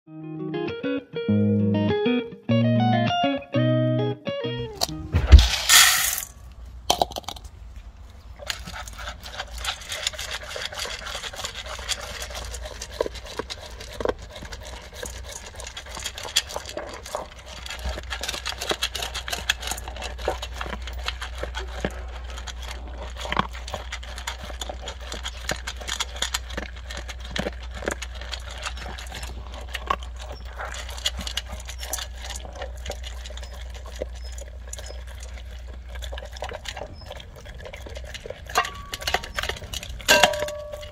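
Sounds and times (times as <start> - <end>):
dog crunching dry kibble: 4.7 - 40.9
kibble clicking against metal bowl: 6.9 - 7.5, 8.4 - 40.9.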